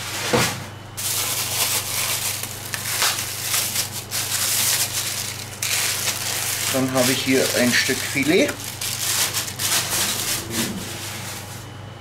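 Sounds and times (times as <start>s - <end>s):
plastic wrapping crinkling: 1.0s - 11.6s.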